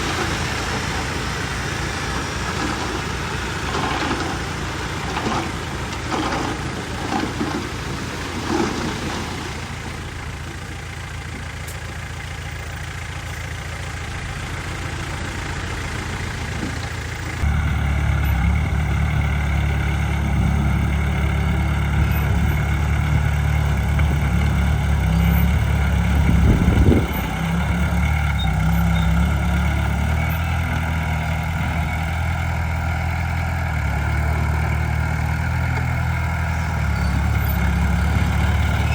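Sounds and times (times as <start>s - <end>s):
diesel machinery engine: 0.0s - 38.9s.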